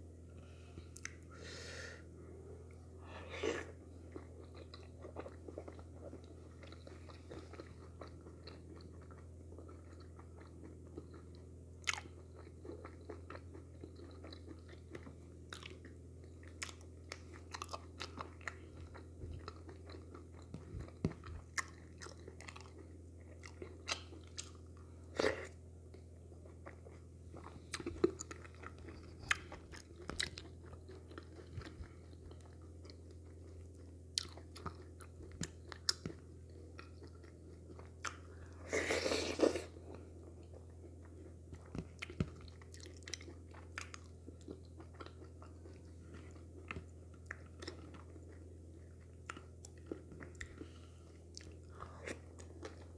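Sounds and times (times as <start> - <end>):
steady low hum: 0.0 - 52.9
chewing and mouth sounds: 3.3 - 52.9.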